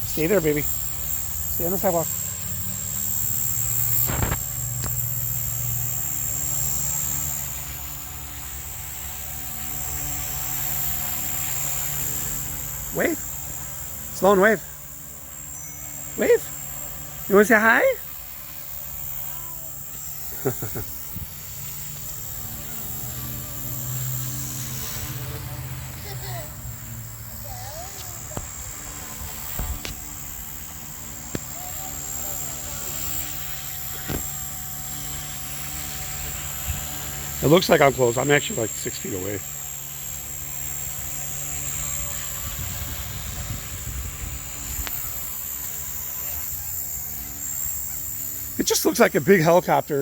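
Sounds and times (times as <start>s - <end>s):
rc helicopter buzzing: 0.0s - 50.0s.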